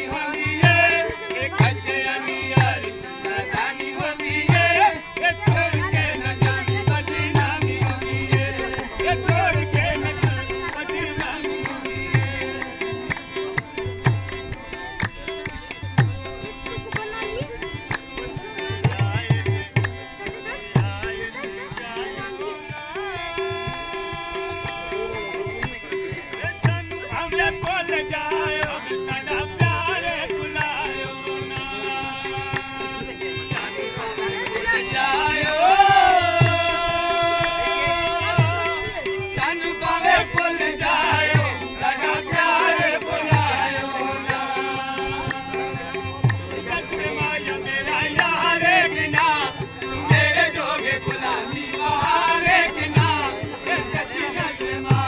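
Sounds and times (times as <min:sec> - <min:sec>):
hand drum: 0:00.0 - 0:55.0
harmonium chords: 0:00.0 - 0:55.0
man singing: 0:00.0 - 0:55.0.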